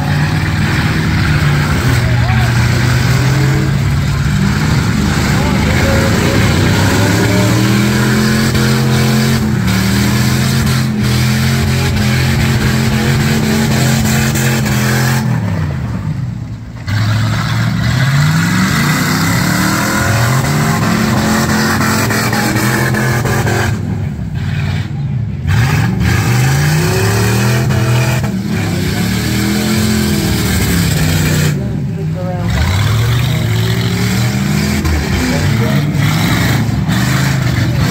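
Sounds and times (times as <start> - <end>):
car engines revving hard: 0.0 - 37.9.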